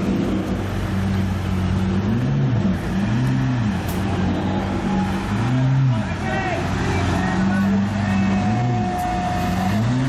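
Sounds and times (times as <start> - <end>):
car engine idling and blipping: 0.0 - 10.0.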